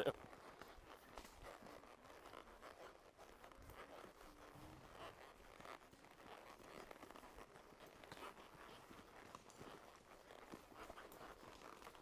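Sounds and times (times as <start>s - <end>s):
horse walking crunching and rustling: 0.0s - 12.0s.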